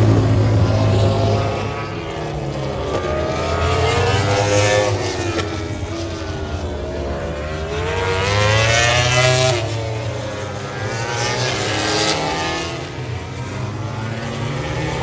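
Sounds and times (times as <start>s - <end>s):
racing motorcycles passing by: 0.0s - 15.0s.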